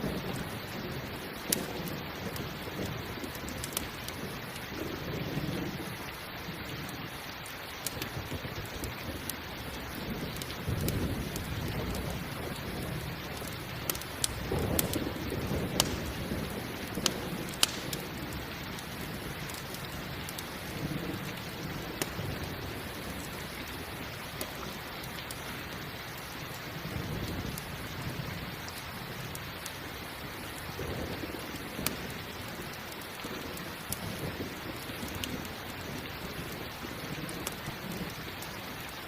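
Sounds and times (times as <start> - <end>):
low rumbles of thunder: 0.0 - 7.1, 7.9 - 24.8, 26.7 - 29.4, 30.3 - 38.2
campfire crackling and popping: 0.0 - 39.0
steady rain falling: 0.0 - 39.0.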